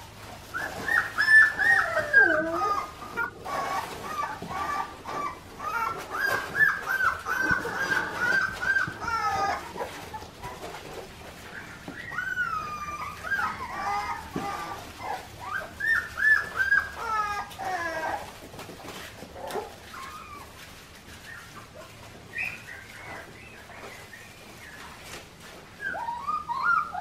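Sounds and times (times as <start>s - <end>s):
puppies whining and yelping: 0.0s - 27.0s.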